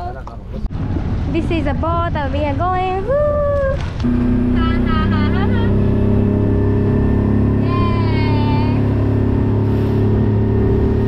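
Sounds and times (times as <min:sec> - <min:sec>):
speedboat engine running: 0:00.1 - 0:11.0.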